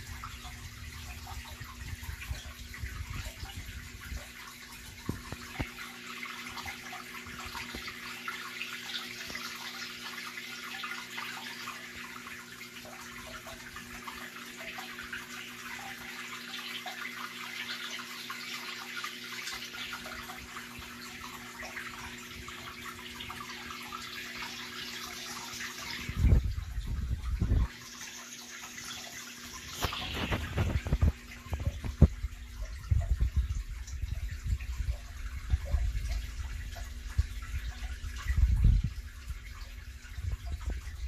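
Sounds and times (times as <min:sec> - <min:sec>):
low hum of filter motors: 0:00.0 - 0:41.0
water trickling and splashing: 0:00.0 - 0:41.0.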